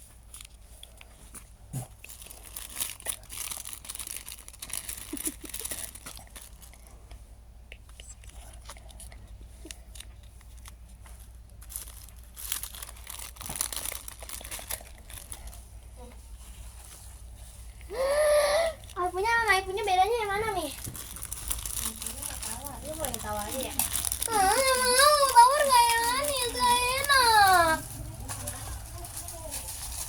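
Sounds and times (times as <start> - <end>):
packaging crinkling and rustling: 0.0 - 7.0, 7.9 - 30.0.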